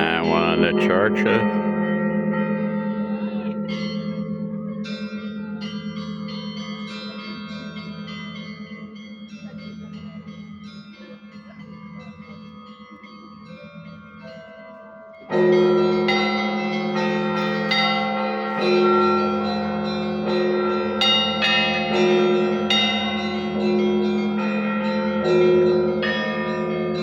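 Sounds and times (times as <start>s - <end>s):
big bell humming: 0.0s - 27.0s
church bells pealing: 0.0s - 27.0s
small bells struck: 0.0s - 27.0s.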